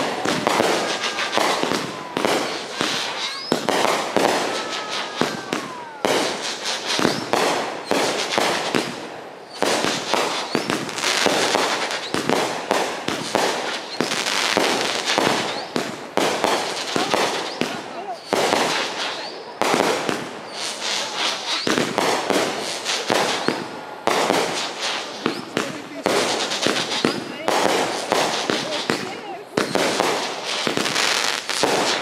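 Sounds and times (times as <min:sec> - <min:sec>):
fireworks bangs and crackling: 0:00.0 - 0:32.0
fireworks whistles: 0:00.0 - 0:32.0.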